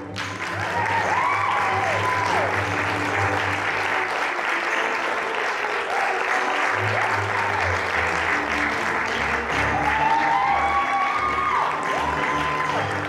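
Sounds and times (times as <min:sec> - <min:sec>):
audience applauding: 0:00.0 - 0:13.0
faint ballet music: 0:00.0 - 0:13.0.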